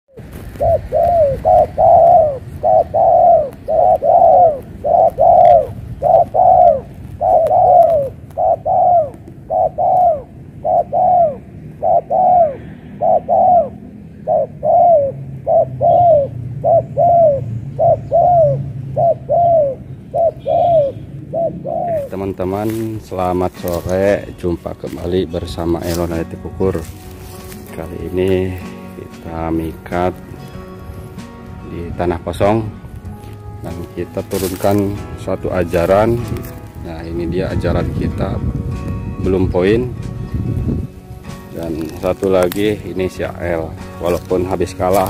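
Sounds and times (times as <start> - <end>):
dove cooing: 0.1 - 38.0, 40.9 - 45.0.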